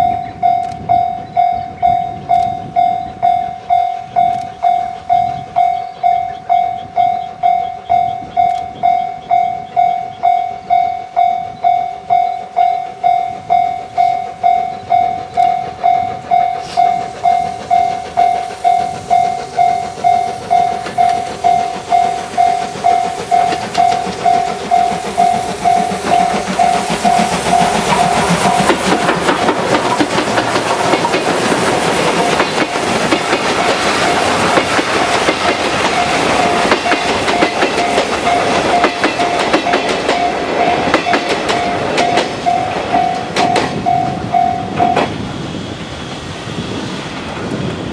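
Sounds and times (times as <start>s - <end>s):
level-crossing warning bell ringing: 0.0s - 46.3s
steam train running: 0.0s - 47.9s.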